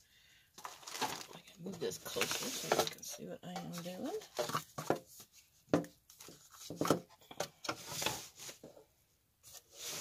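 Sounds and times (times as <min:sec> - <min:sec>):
plastic scraping and rustling: 0:00.6 - 0:08.8.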